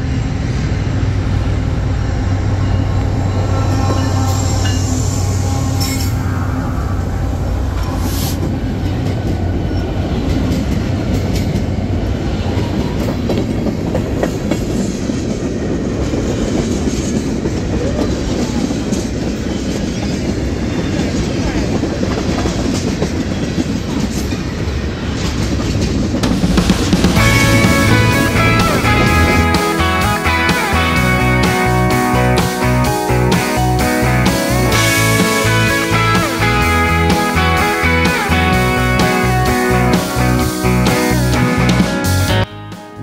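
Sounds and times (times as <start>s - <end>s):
train cars rumbling: 0.0s - 42.5s
diesel locomotive engine drone: 0.0s - 43.0s
wheels clacking on rails: 1.3s - 42.2s.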